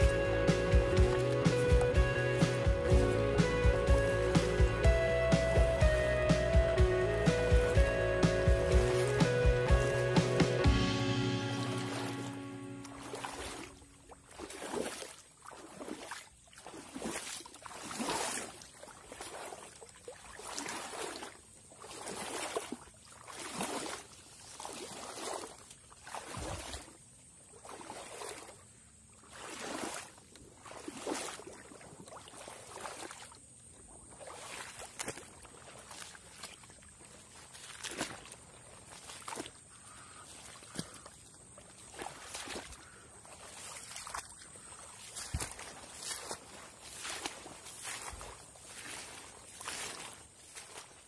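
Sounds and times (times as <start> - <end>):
water swishing: 0.0 - 51.0.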